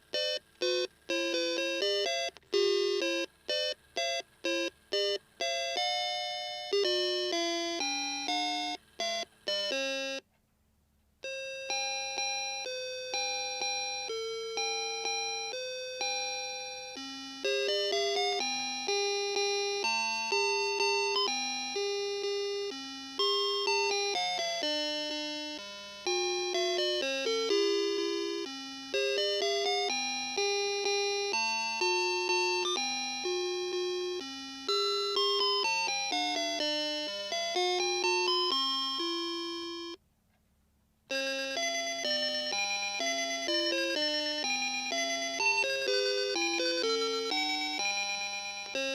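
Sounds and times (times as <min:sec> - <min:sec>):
alarm clock chime melody: 0:00.0 - 0:10.2, 0:11.2 - 0:40.0, 0:41.1 - 0:48.9.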